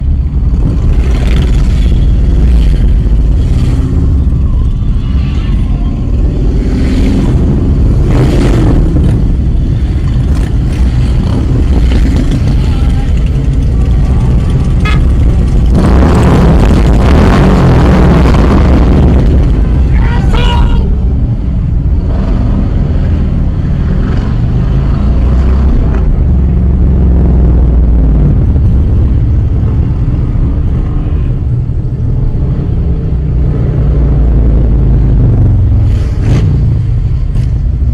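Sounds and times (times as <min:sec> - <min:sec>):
motorcycle engines rumbling: 0:00.0 - 0:37.9.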